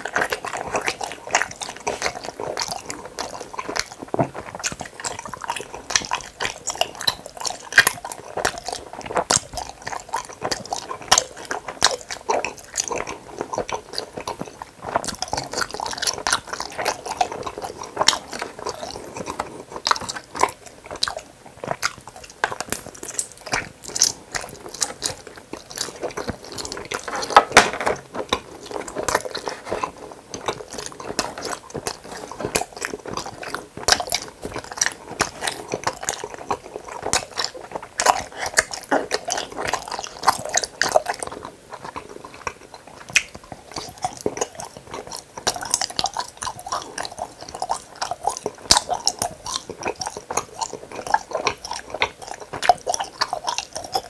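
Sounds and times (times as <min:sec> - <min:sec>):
sticky chewing mouth clicks: 0:00.0 - 0:54.0.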